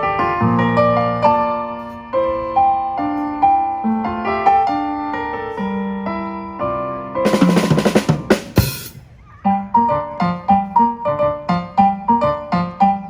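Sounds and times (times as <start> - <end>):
slow solo piano melody: 0.0 - 13.0.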